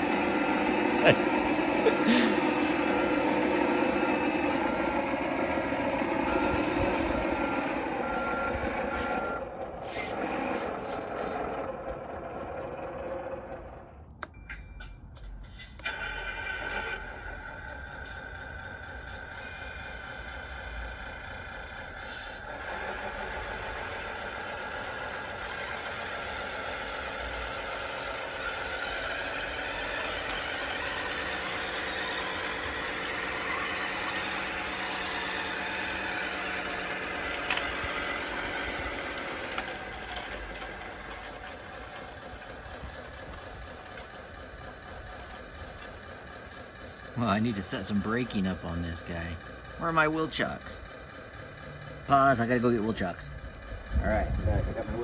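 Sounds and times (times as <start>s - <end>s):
toy bulldozer motor whine: 0.0s - 14.4s, 15.5s - 55.0s.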